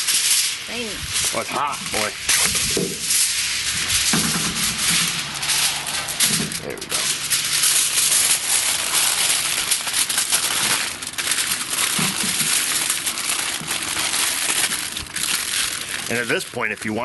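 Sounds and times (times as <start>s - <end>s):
aluminum foil crinkling: 0.0s - 17.0s.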